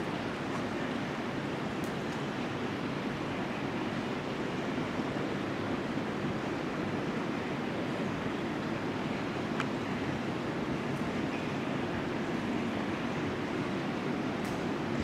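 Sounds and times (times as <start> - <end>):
faint train running: 0.0 - 15.0
rushing noise in railway tunnel: 0.0 - 15.0.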